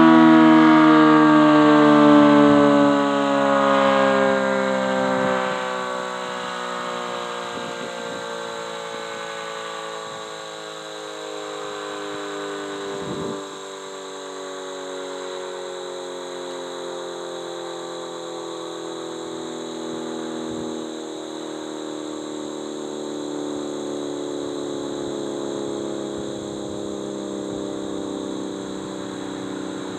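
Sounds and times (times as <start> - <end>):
two-tone siren winding down: 0.0 - 29.9.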